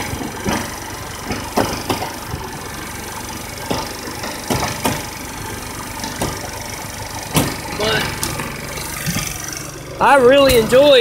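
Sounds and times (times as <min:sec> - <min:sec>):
engine pops: 0:00.0 - 0:11.0
scooter engine idling: 0:00.0 - 0:11.0.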